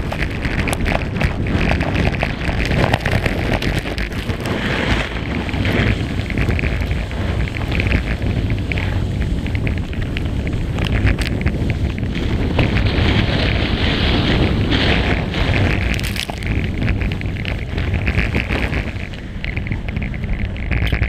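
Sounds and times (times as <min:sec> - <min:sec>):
skis scraping over snow: 0:00.0 - 0:21.0
wind rumbling on microphone: 0:00.0 - 0:21.0.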